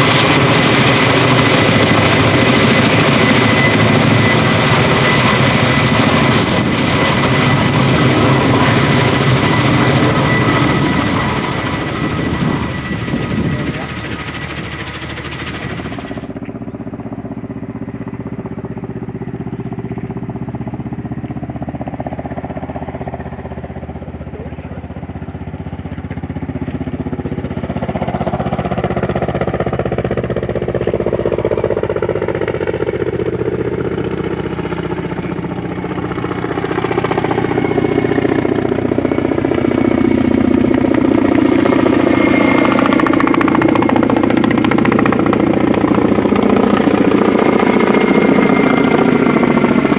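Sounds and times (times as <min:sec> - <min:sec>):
helicopter rotors and engines running: 0:00.0 - 0:49.9.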